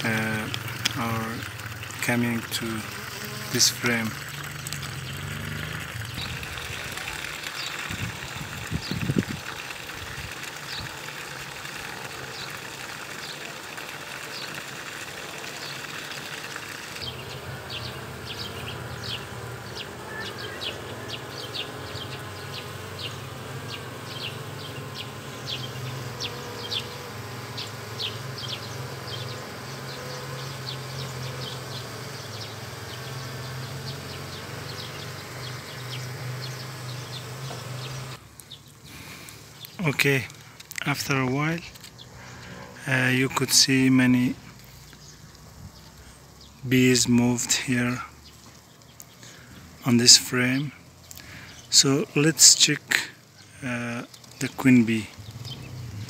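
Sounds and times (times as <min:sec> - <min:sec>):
bee swarm humming: 0:00.0 - 0:56.0.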